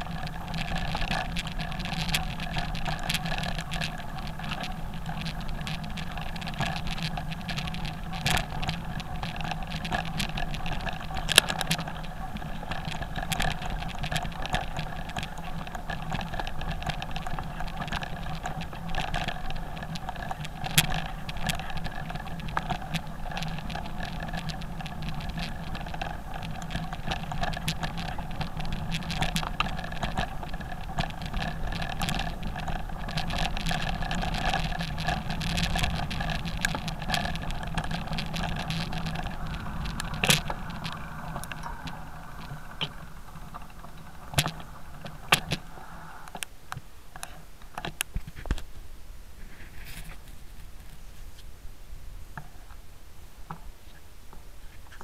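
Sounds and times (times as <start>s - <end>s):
motorcycle engine running: 0.0s - 45.6s
wind noise: 0.0s - 46.4s
stones clicking against bike: 0.0s - 48.8s.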